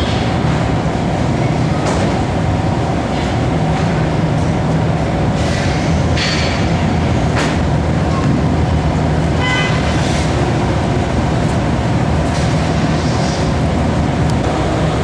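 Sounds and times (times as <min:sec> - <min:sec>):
ferry engines rumbling: 0:00.0 - 0:15.0.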